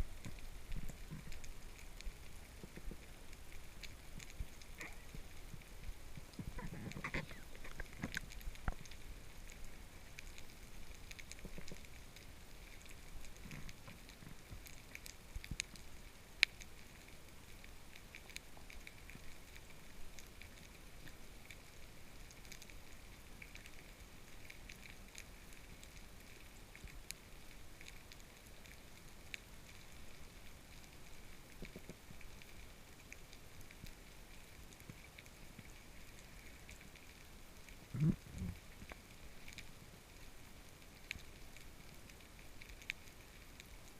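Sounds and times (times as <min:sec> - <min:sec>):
underwater crackle of clicks: 0:00.0 - 0:43.9.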